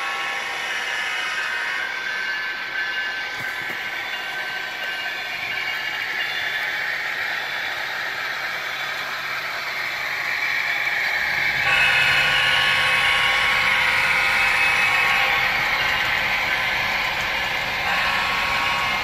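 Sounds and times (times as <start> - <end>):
locomotive hum: 0.0 - 19.0
model train rolling on track: 0.0 - 19.0.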